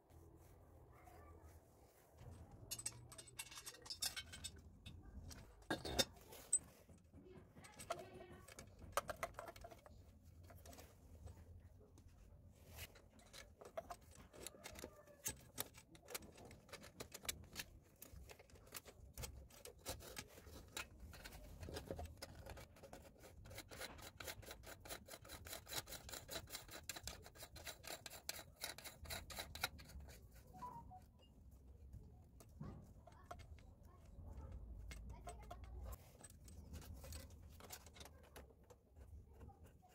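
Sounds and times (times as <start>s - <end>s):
faint clicking and rubbing of hoses: 0.0s - 39.9s.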